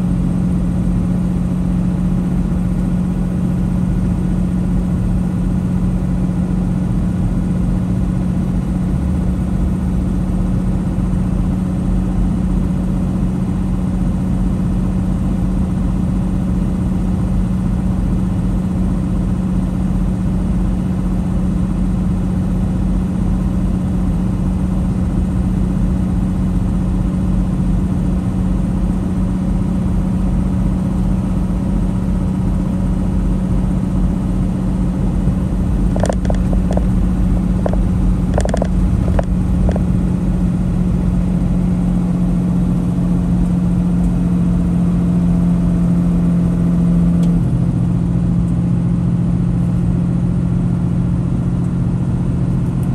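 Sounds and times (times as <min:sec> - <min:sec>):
truck diesel engine drone: 0:00.0 - 0:52.9.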